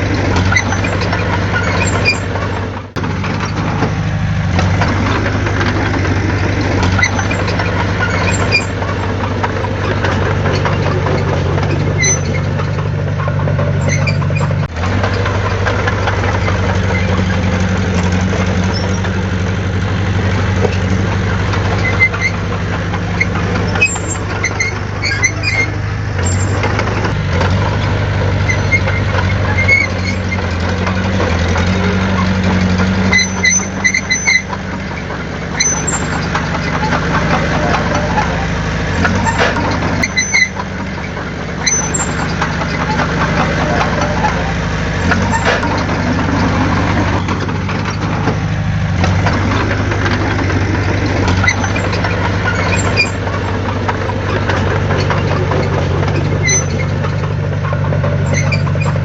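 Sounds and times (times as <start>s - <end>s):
high metallic squeaks: 0.0s - 3.8s, 4.5s - 19.6s, 20.3s - 59.0s
heavy diesel engine running: 0.0s - 59.0s.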